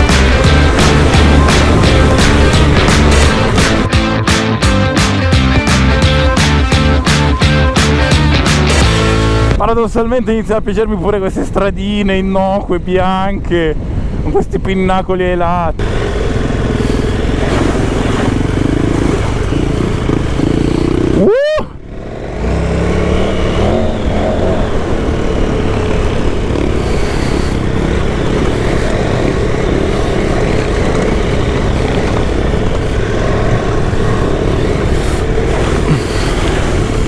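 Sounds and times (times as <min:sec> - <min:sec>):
motorcycle engine running: 0:00.0 - 0:09.6, 0:15.8 - 0:37.0.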